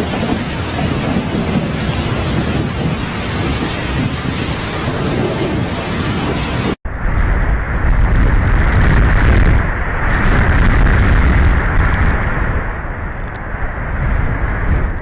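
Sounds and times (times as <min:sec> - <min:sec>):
low rumble: 0:00.0 - 0:15.0
steady rushing noise: 0:00.0 - 0:15.0.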